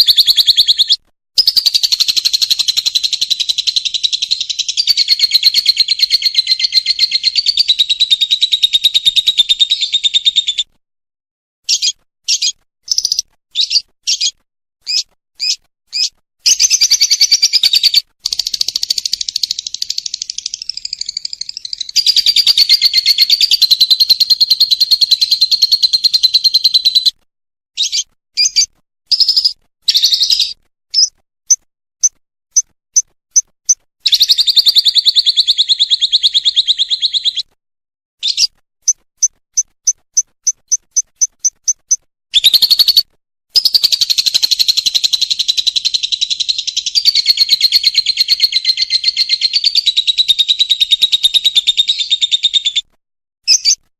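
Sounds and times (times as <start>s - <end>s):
lovebird chattering trill: 0.0s - 10.6s, 11.7s - 27.1s, 27.8s - 31.1s, 34.1s - 37.5s, 38.2s - 38.5s, 39.2s - 52.8s, 53.5s - 53.8s
short bird chirps: 0.0s - 10.7s, 11.6s - 27.2s, 27.8s - 37.5s, 38.2s - 52.9s, 53.5s - 53.9s.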